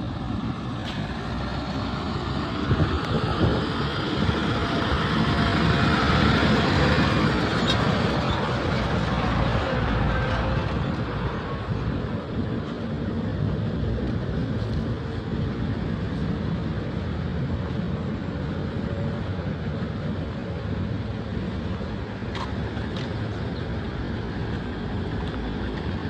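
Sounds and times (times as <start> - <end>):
motor vehicles and road noise: 0.0 - 26.0.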